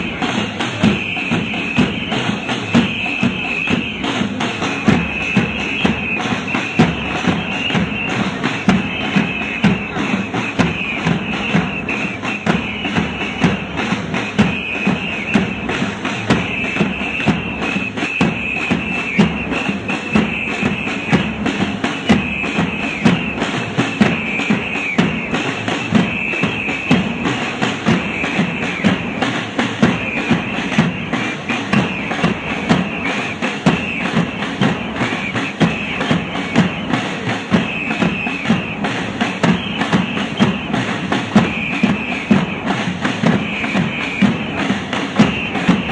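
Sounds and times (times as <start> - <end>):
constant din: 0.0 - 45.9
drums beating: 0.0 - 45.9.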